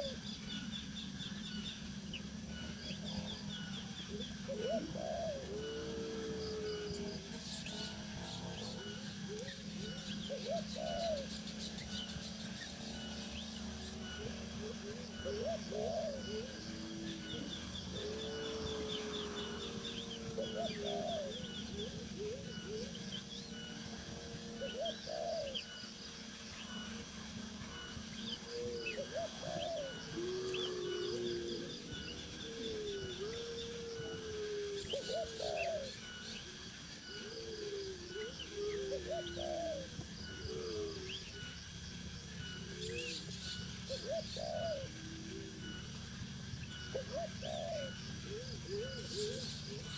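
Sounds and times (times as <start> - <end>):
birds calling low: 0.0 - 49.9
faint high bird chirps: 0.0 - 49.9.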